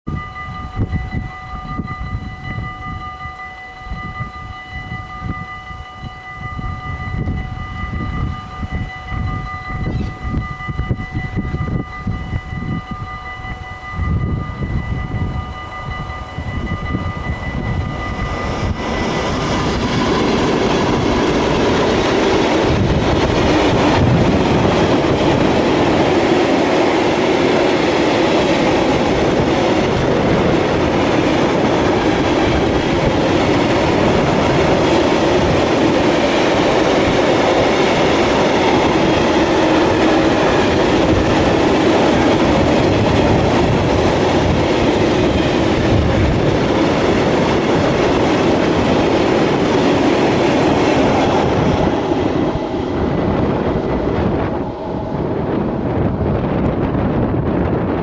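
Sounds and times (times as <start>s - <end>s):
freight train wheels rumbling: 0.1s - 58.0s.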